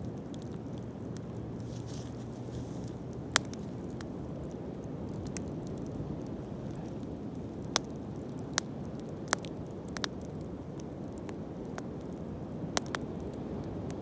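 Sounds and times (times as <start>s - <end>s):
bonfire burning: 0.0s - 14.0s
fire crackling pops: 0.0s - 14.0s.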